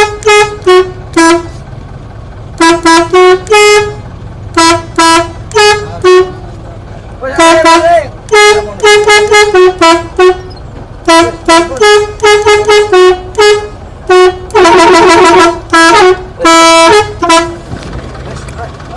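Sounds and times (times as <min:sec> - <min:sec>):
multi-tone bus horn tune: 0:00.0 - 0:06.6, 0:07.2 - 0:17.7.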